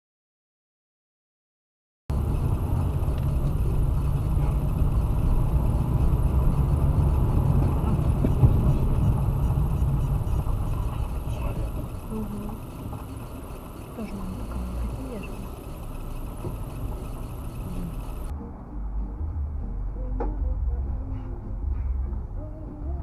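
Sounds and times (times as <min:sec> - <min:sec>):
moving car rumble: 0:02.1 - 0:23.0.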